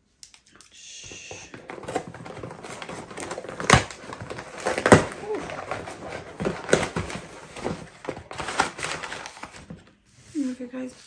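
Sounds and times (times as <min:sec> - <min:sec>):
packaging rustling and crinkling: 0:01.4 - 0:11.0.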